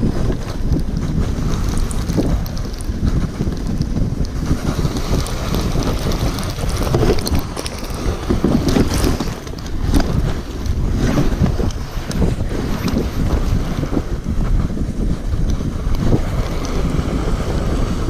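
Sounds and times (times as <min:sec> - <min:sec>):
sled runners scraping snow: 0:00.0 - 0:18.0
wind buffeting microphone: 0:00.0 - 0:18.0.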